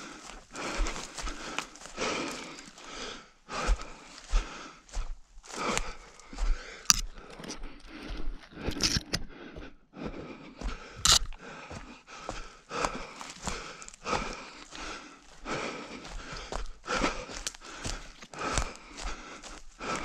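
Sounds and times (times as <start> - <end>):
footsteps: 0.0 - 20.0
heavy breathing: 0.0 - 20.0.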